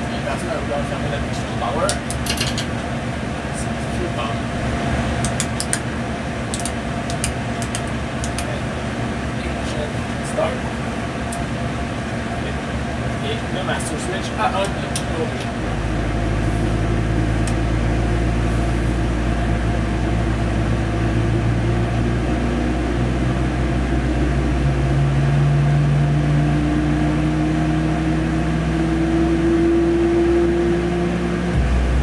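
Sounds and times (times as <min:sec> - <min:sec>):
low engine hum: 0:00.0 - 0:32.0
rising engine whine: 0:00.0 - 0:32.0.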